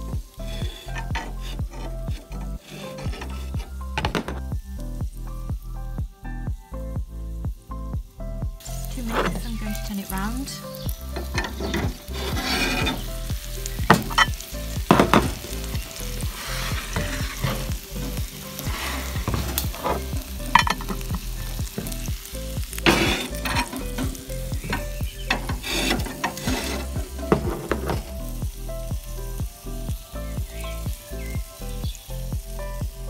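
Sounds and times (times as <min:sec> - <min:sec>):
chicken sizzling with pops: 0:00.0 - 0:33.0.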